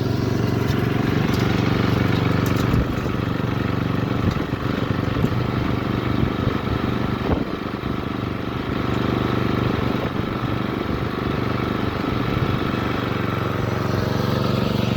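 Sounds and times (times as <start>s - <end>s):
riding mower engine running: 0.0s - 14.9s.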